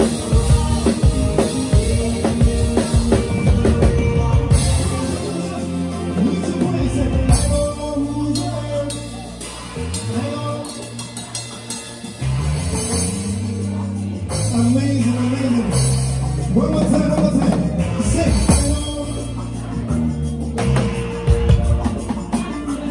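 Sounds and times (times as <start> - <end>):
bass line: 0.0 - 22.9.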